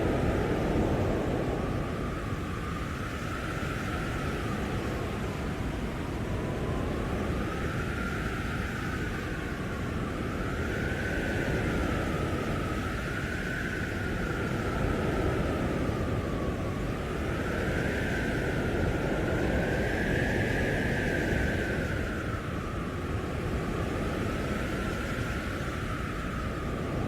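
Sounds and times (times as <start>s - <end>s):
storm wind howling: 0.0s - 27.0s.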